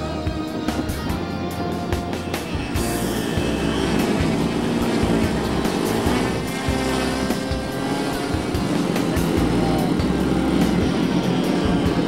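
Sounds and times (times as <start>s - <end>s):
model aircraft engines flying past: 0.0s - 12.0s.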